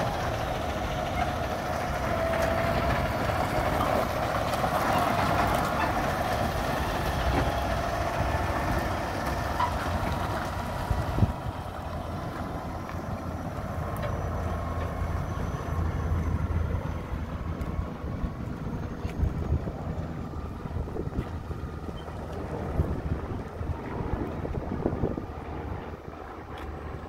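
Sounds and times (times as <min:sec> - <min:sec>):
truck engine rumble: 0:00.0 - 0:27.0.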